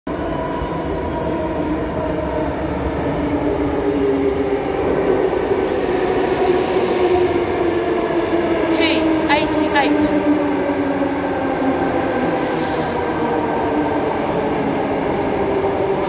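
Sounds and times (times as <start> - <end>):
electric train approaching: 0.1 - 16.0.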